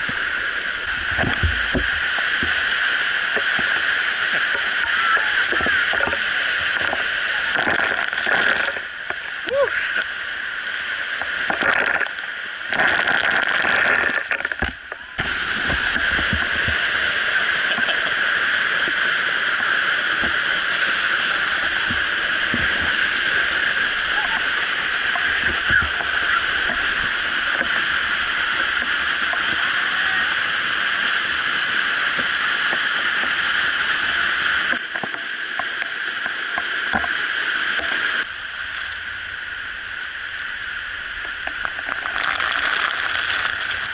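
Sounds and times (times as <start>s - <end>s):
waterfall rushing hiss: 0.0s - 43.9s.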